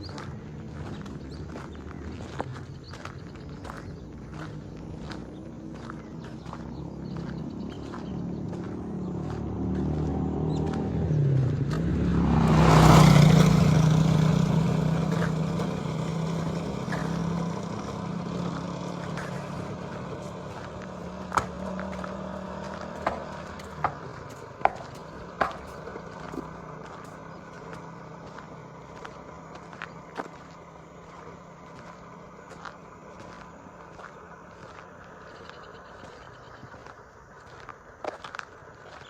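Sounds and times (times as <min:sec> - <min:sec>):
vehicle engine passing by: 0:00.0 - 0:39.0.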